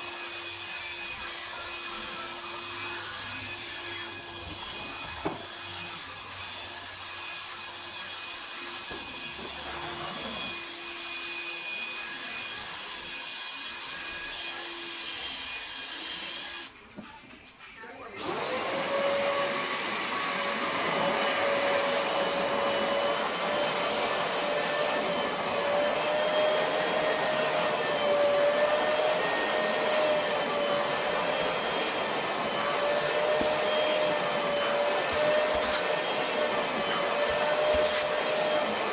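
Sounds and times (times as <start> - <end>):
vacuum cleaner whining: 0.0 - 16.7, 18.2 - 38.9.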